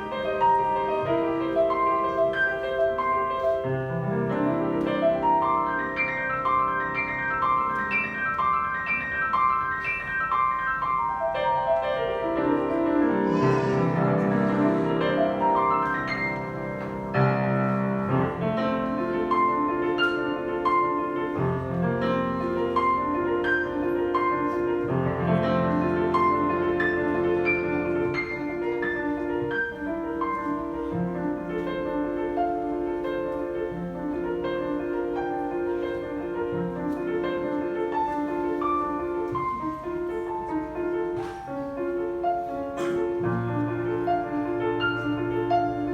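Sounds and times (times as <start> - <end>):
instrumental piano music: 0.0 - 45.9.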